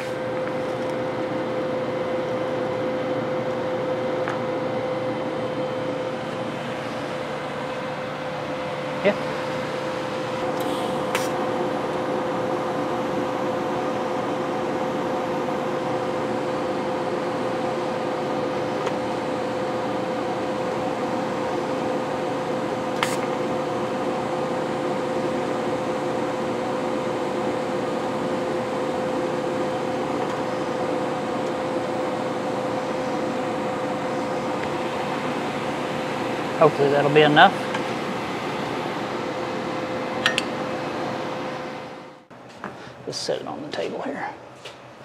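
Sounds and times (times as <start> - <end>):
arc welder humming: 0.0 - 42.9.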